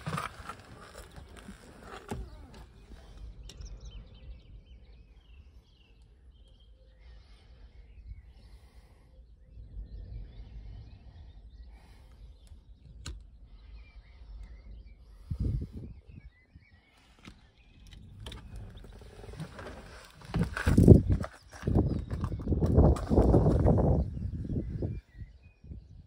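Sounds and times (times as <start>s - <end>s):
low wind rumble on microphone: 0.0s - 26.0s
faint bird chirps: 0.1s - 26.0s.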